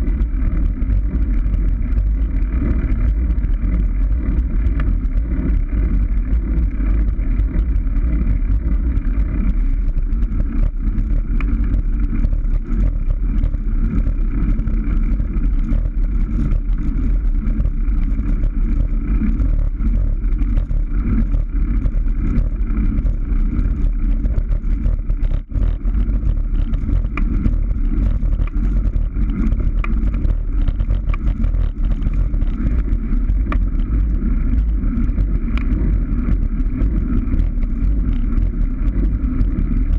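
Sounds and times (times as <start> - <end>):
heavy wind rumble on microphone: 0.0 - 39.9.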